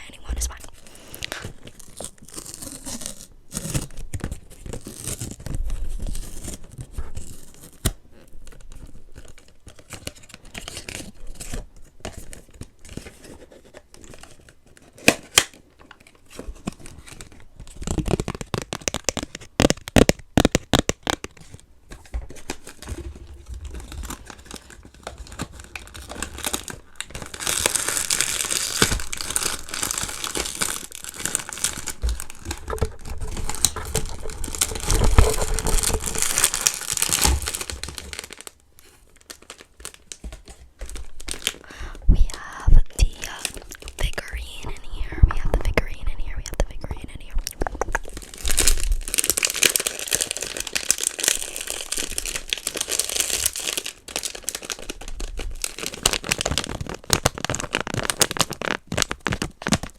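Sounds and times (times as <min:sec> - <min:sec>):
packaging tearing and crinkling: 0:00.5 - 0:44.6, 0:47.4 - 0:59.9.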